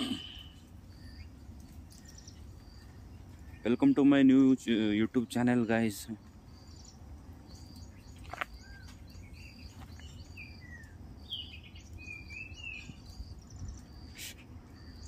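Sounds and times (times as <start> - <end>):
birds chirping and whistling: 0.0 - 4.3, 5.4 - 15.0
low outdoor rumble: 0.0 - 15.0.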